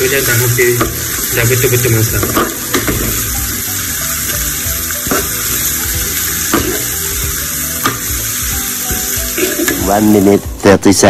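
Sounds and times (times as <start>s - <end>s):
shallots frying in hot oil: 0.0s - 10.7s.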